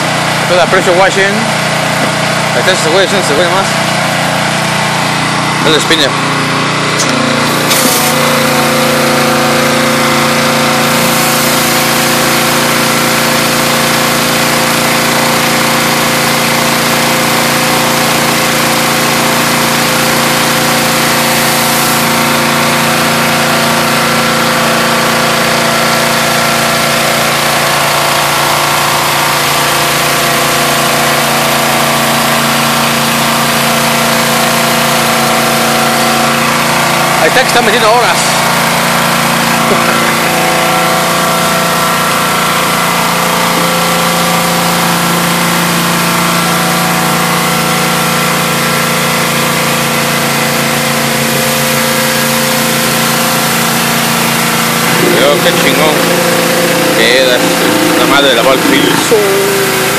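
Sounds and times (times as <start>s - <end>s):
pressure washer engine running: 0.0s - 59.9s
high-pressure water jets hissing: 7.0s - 59.9s.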